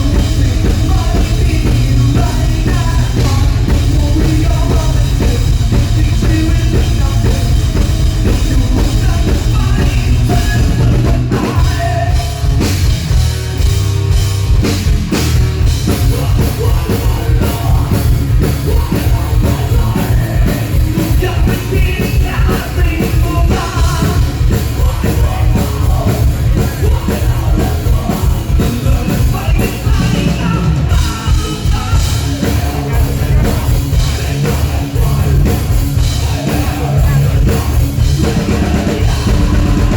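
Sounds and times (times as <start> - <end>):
person singing: 0.0 - 12.8, 15.8 - 39.9
drum kit: 0.0 - 39.9
heavy bass: 0.0 - 39.9
rock band playing: 0.0 - 39.9.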